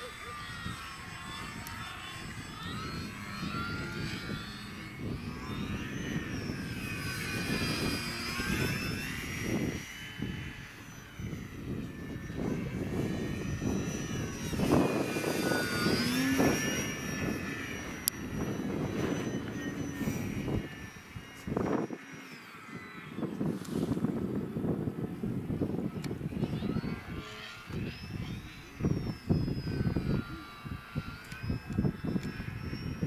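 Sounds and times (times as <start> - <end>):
model airplane motor whining: 0.0 - 33.0.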